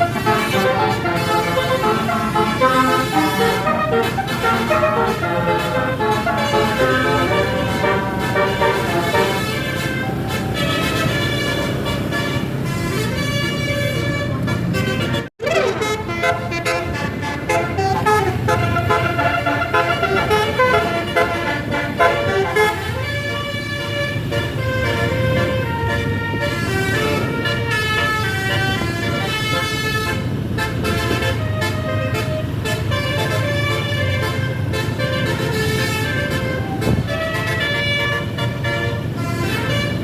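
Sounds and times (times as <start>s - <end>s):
bus engine running low: 0.0s - 40.0s
bus horn playing melody: 0.0s - 40.0s.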